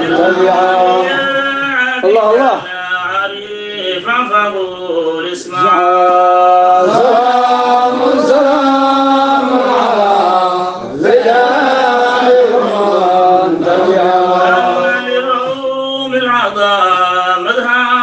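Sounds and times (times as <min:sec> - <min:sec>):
person chanting: 0:00.0 - 0:18.0.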